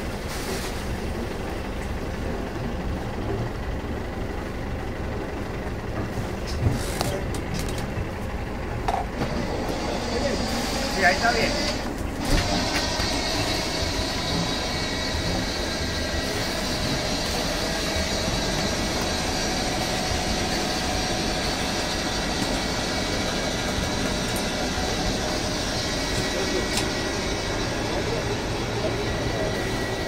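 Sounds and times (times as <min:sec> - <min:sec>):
boat diesel engine running: 0:00.0 - 0:30.0.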